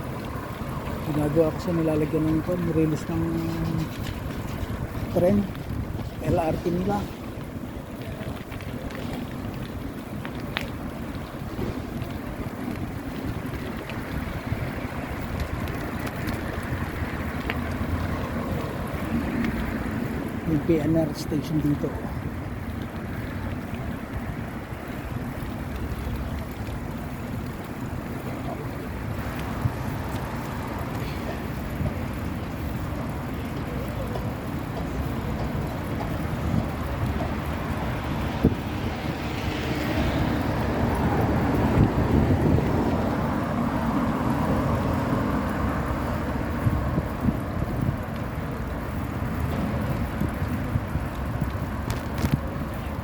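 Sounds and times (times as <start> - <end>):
road traffic: 0.0 - 53.0
wind rumbling on microphone: 0.0 - 53.0.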